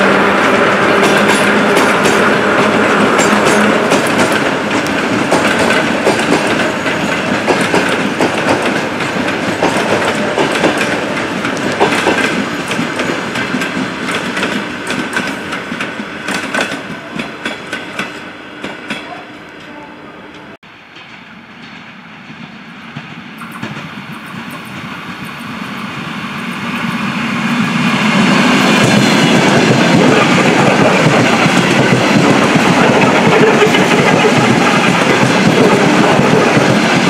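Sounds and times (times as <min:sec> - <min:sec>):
train wheels clattering over rails: 0:00.0 - 0:19.2, 0:20.8 - 0:37.0.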